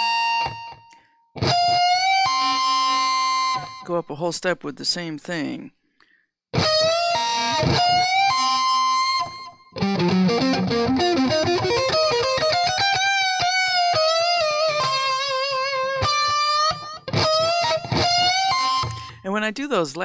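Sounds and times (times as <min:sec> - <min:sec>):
overdriven electric guitar blues lick: 0:00.0 - 0:03.8, 0:06.6 - 0:19.2.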